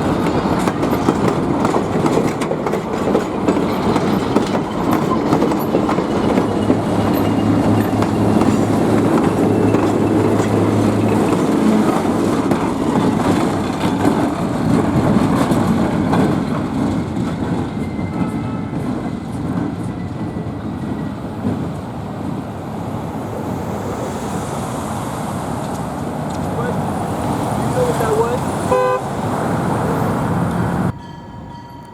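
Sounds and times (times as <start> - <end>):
train rolling past: 0.0 - 31.9.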